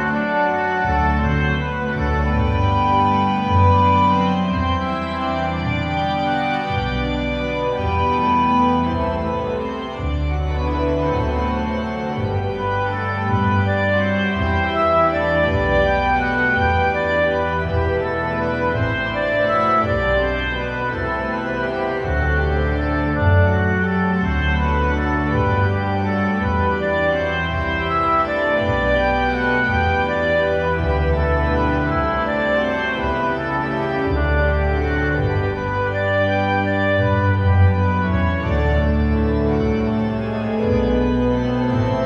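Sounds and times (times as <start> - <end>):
slow organ-like chords: 0.0 - 42.0.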